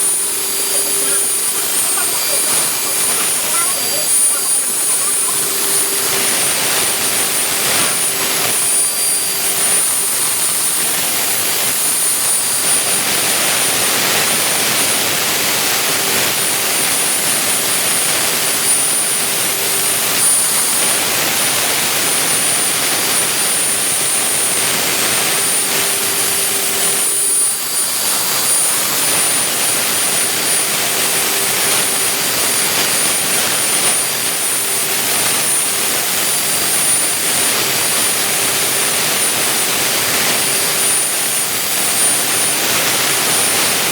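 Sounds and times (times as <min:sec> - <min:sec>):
milling machine hissing: 0:00.0 - 0:43.9
spindle whine: 0:00.0 - 0:43.9.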